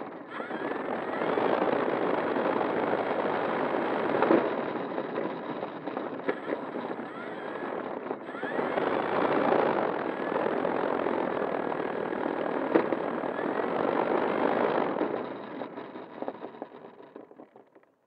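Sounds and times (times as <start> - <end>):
electric motor and propeller: 0.0 - 17.8.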